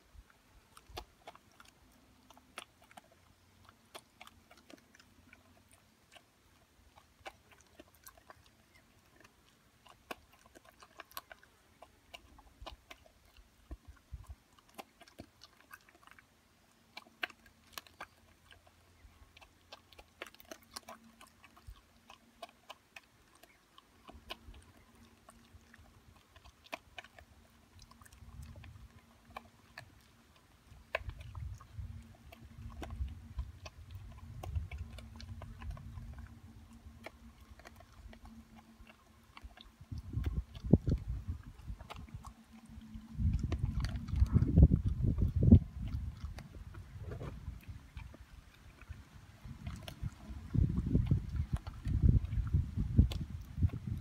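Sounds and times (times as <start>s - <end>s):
dog crunching kernels: 0.1s - 54.0s.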